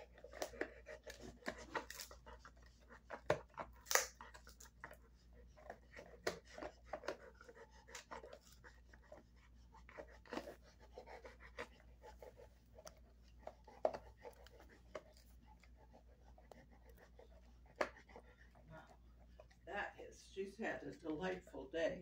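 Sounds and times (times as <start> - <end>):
dog chewing and gnawing: 0.0 - 22.0.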